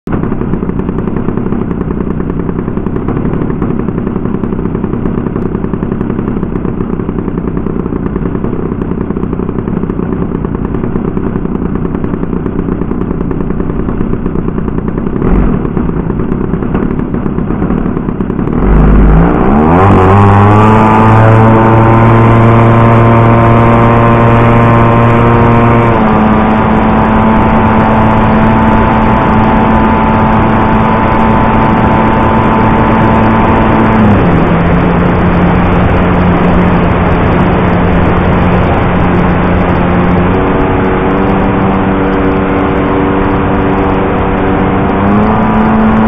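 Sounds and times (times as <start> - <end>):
two-stroke model engine: 0.1 - 46.0.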